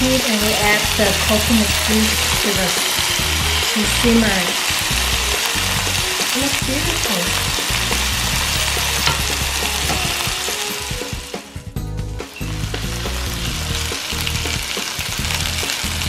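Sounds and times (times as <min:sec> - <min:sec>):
chicken sizzling in a frying pan: 0:00.0 - 0:16.0.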